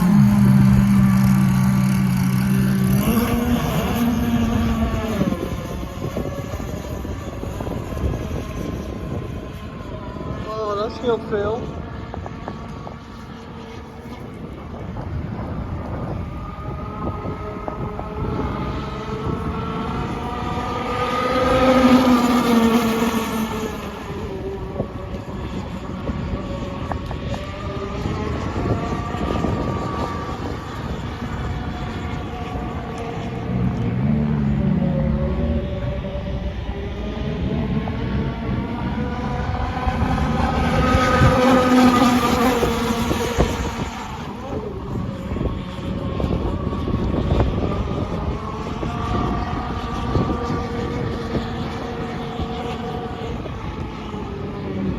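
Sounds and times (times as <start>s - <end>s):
louder low drone: 0.0s - 54.9s
model boat engine running: 0.0s - 54.9s.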